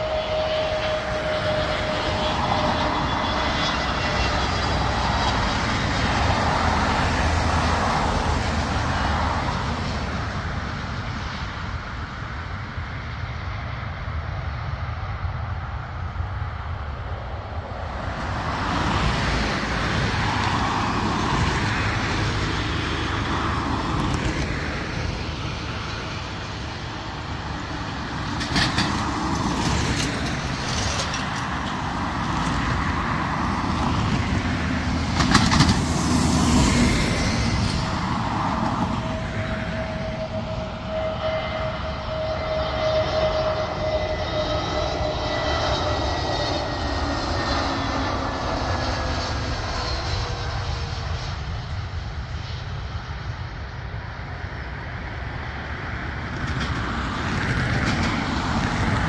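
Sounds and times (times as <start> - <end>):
high engine whine: 0.0 - 59.0
jet engine rumble: 0.0 - 59.0.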